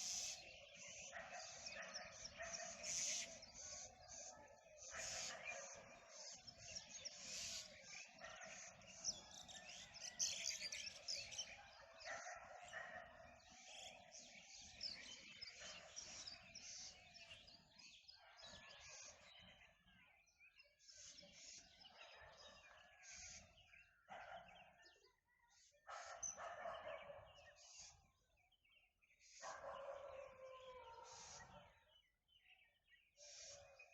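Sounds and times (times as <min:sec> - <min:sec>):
birds chirping: 0:00.0 - 0:19.9, 0:25.9 - 0:33.9.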